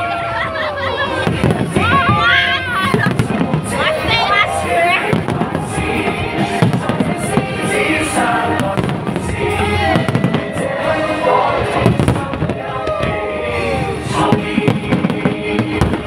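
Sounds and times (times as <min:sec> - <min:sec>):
music playing: 0:00.0 - 0:16.0
fireworks bangs: 0:01.0 - 0:13.4, 0:14.2 - 0:16.0.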